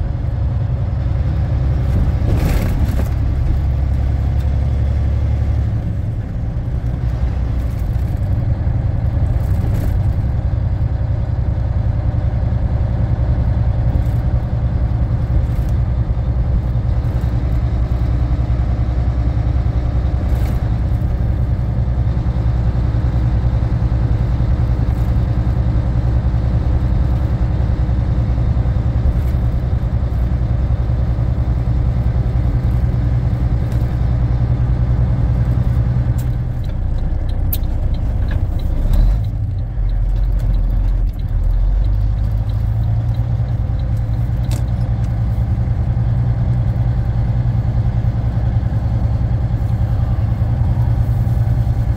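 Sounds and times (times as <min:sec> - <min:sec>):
truck diesel engine droning: 0:00.0 - 0:51.9.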